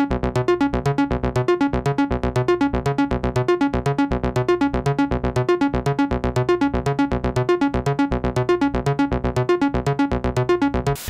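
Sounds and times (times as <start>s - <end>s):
repeated synth notes: 0.0s - 11.0s.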